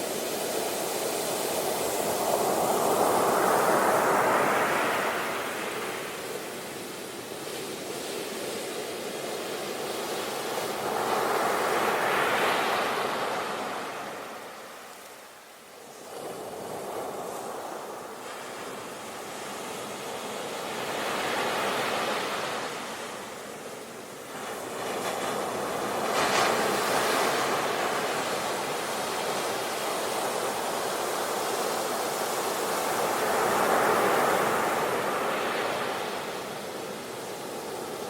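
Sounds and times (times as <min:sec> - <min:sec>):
sea waves washing onto shore: 0:00.0 - 0:38.0.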